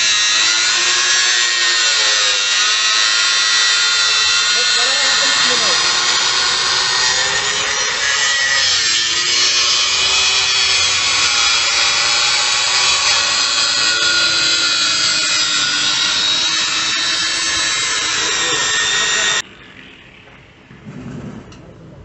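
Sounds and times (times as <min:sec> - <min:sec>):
angle grinder cutting metal: 0:00.0 - 0:20.1.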